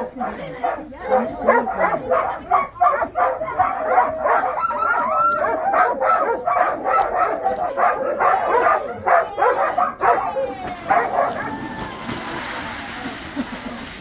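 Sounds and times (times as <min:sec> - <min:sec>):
sled dogs barking and yelping: 0:00.0 - 0:14.0.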